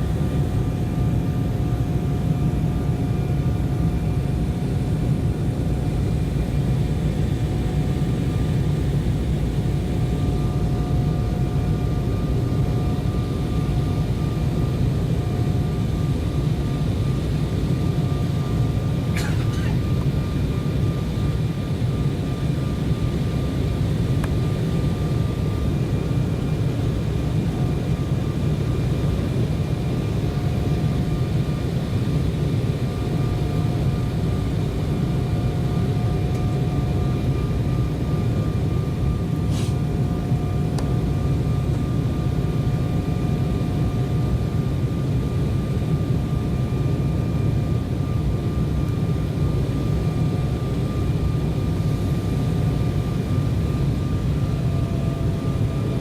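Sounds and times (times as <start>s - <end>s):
high engine whine: 0.0s - 52.5s
jet airliner cabin roar: 0.0s - 56.0s.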